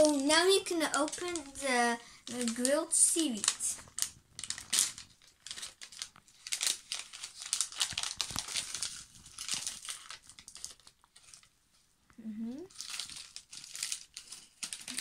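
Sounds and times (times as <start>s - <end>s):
plastic packet crinkling: 0.0s - 11.5s, 12.7s - 15.0s.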